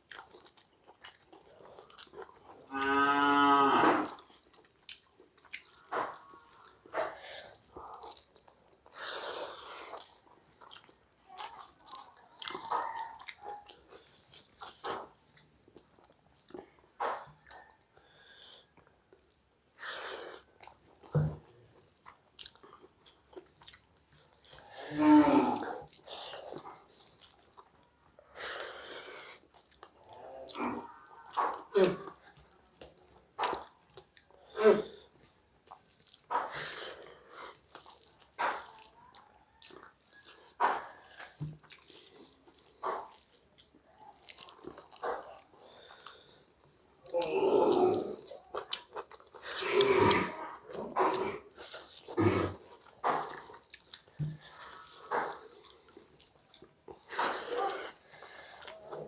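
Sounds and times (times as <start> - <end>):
people chewing and smacking: 0.0 - 59.0.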